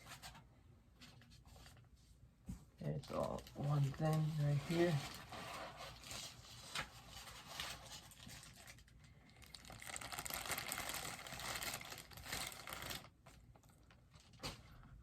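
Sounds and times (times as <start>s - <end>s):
packing material rustling: 2.8s - 14.9s.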